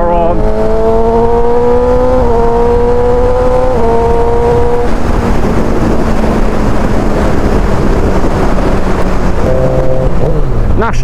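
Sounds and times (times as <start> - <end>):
motorcycle engine running: 0.0 - 10.8
wind and road noise: 0.0 - 11.0.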